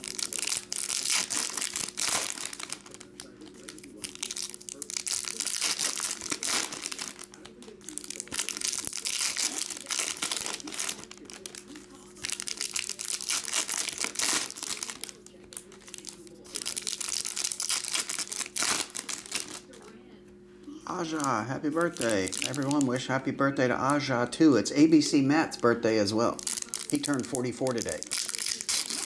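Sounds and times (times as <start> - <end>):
foil wrappers crinkling and tearing: 0.0 - 19.9, 20.9 - 23.3, 25.5 - 29.0.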